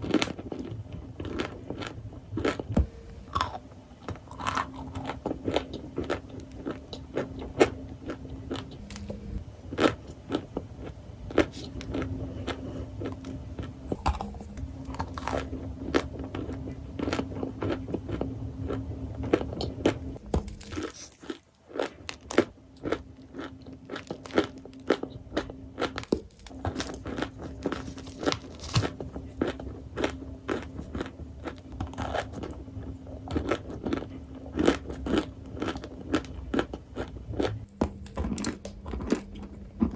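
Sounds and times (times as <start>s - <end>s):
balls crunching: 0.0s - 39.9s
low steady hum: 0.0s - 39.9s.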